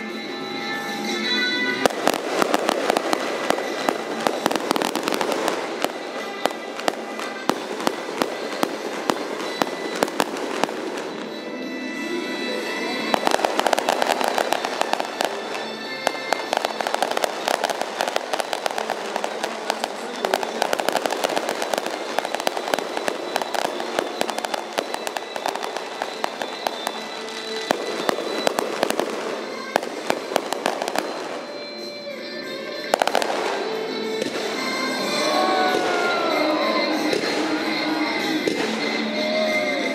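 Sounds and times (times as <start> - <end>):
music: 0.0 - 39.9
fireworks popping and crackling: 1.7 - 39.9.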